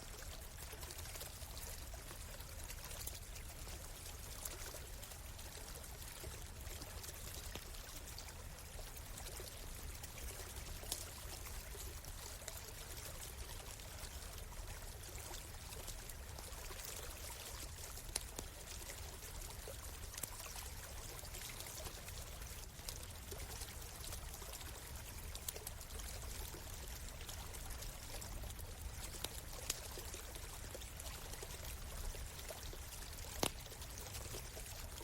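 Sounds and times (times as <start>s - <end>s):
stream water flowing: 0.0s - 35.0s
campfire crackle: 0.2s - 35.0s.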